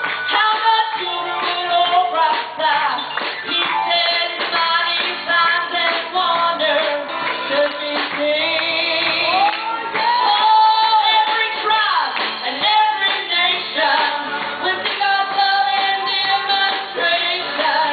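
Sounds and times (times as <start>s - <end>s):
instrumental accompaniment: 0.0s - 17.9s
woman singing gospel song: 0.2s - 17.9s.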